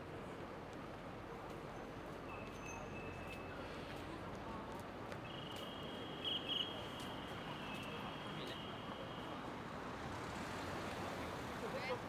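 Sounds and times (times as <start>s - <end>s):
street background noise: 0.0s - 12.0s.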